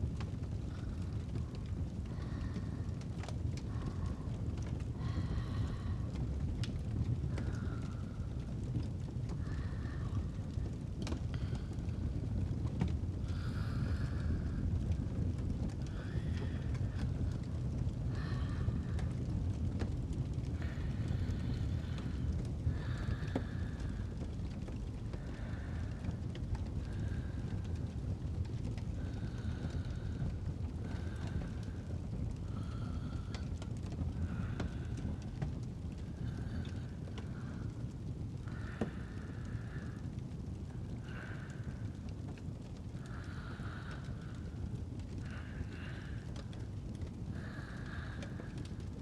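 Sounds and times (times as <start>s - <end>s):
fire crackles: 0.0s - 49.0s
fireplace fire rumbling: 0.0s - 49.0s
sleeper breathing softly: 0.1s - 49.0s.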